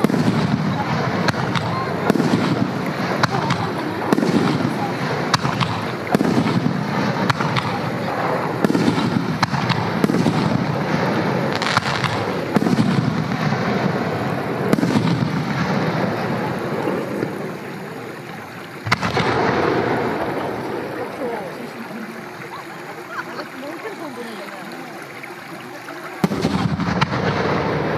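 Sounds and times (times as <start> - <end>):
firework shells bursting: 0.0 - 27.9.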